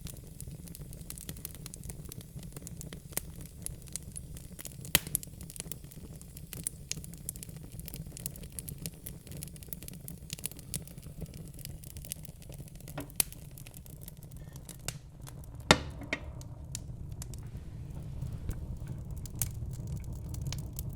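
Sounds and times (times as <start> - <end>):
low rumble of flames: 0.0 - 20.9
wood fire crackling: 0.0 - 20.9.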